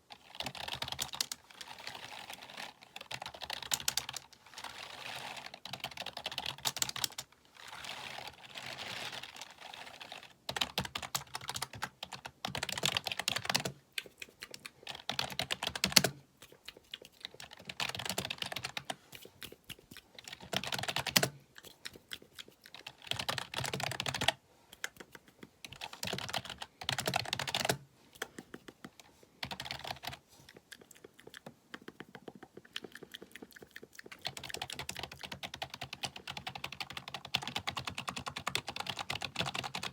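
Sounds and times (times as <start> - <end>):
fast keyboard typing: 0.2 - 1.4, 2.8 - 4.3, 5.4 - 7.3, 10.5 - 39.9.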